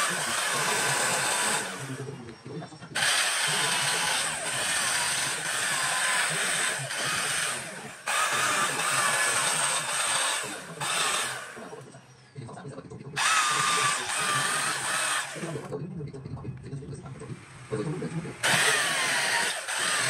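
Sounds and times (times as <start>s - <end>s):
electric carving tool whining: 0.0s - 11.8s, 13.2s - 15.7s, 17.6s - 20.0s.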